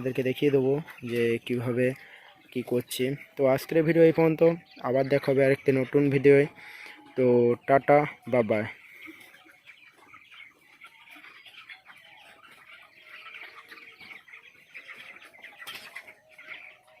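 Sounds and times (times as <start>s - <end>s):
poultry clucking and chirping: 0.0s - 17.0s.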